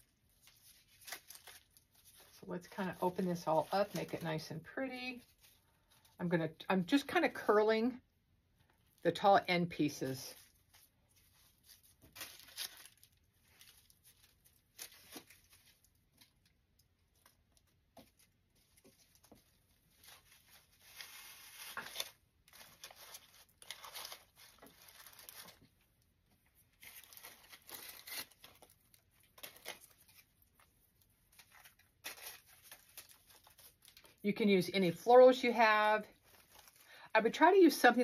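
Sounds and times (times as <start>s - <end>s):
artificial flowers rustling and crinkling: 0.0s - 38.0s.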